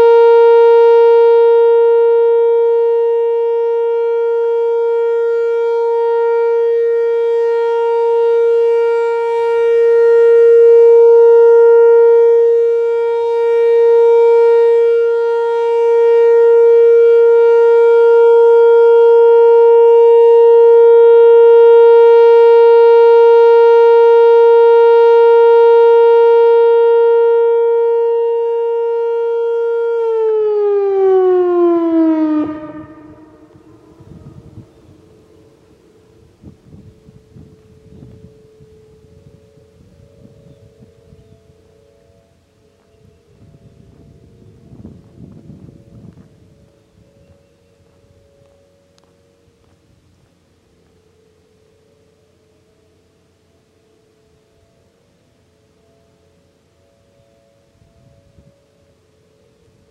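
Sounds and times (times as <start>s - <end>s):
warning siren alert tone: 0.0s - 53.8s.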